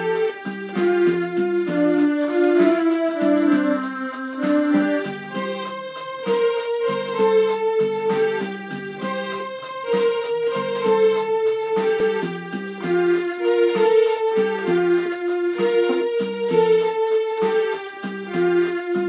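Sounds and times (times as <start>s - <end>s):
electronic keyboard melody: 0.0s - 19.0s.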